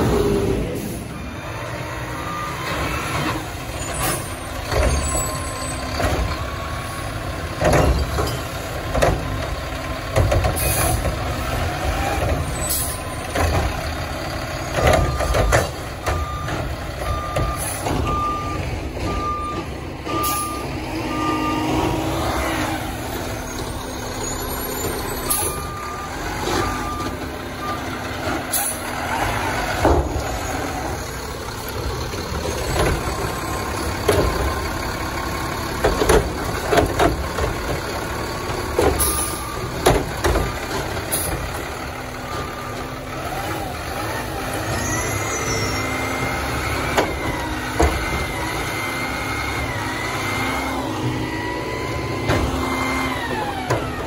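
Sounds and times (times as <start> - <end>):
diesel engine running: 0.0 - 54.0
truck back-up alarm beeping: 0.8 - 9.5, 12.3 - 29.0, 29.8 - 54.0.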